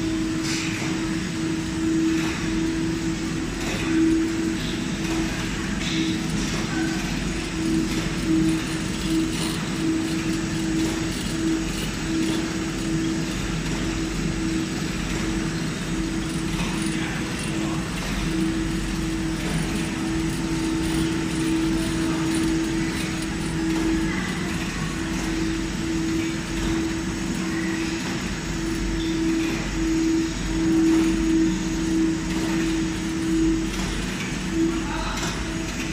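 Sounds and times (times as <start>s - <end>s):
machine humming: 0.0s - 35.9s.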